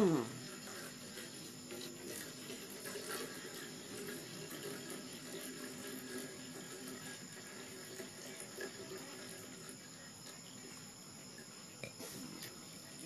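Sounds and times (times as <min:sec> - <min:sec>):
water running into plastic can: 0:00.1 - 0:10.6.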